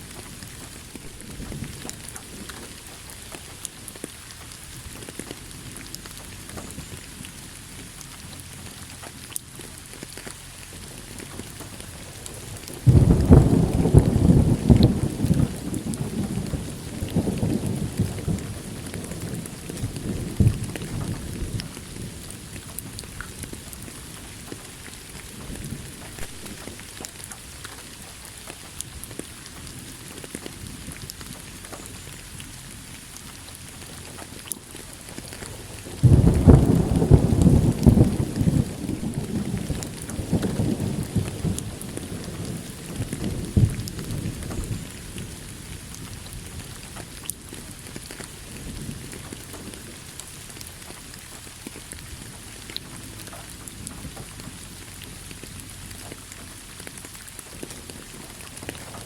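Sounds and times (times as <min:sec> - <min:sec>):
thunder rumbling: 0:00.0 - 0:08.0, 0:10.8 - 0:59.0
steady rain falling: 0:00.0 - 0:59.0.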